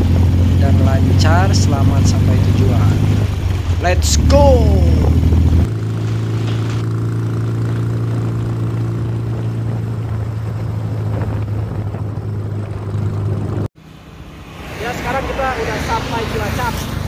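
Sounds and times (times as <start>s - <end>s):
motorcycle engine drone: 0.0s - 17.0s
road noise: 0.0s - 17.0s.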